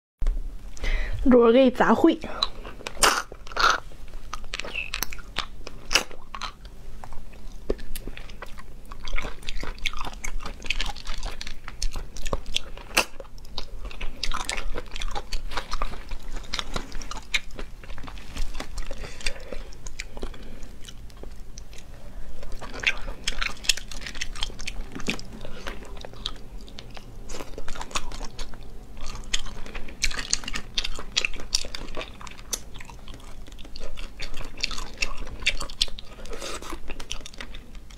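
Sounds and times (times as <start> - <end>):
wet sucking and chewing: 2.3 - 37.9.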